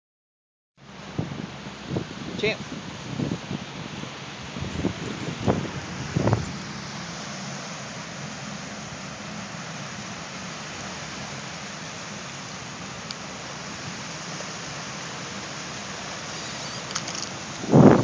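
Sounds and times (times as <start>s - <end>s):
ocean surf: 0.8s - 18.0s
wind: 0.8s - 18.0s.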